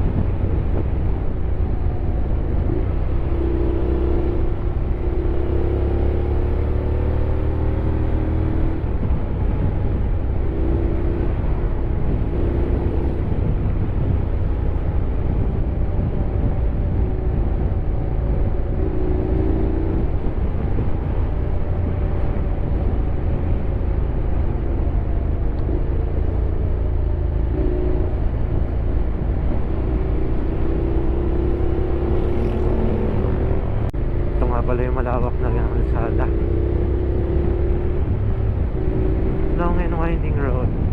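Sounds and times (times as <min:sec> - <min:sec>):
wind noise: 0:00.0 - 0:40.9.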